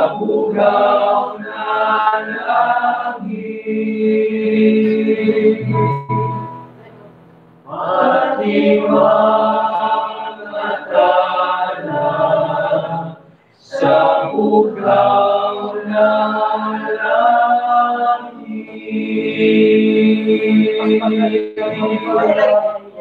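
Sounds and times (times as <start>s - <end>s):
male choir singing: 0.0s - 6.0s, 7.7s - 23.0s.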